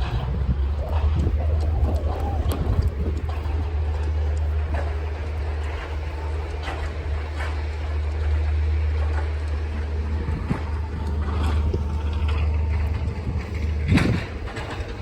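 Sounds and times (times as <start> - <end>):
faint footsteps in snow: 0.0 - 15.0
steady low rumble: 0.0 - 15.0.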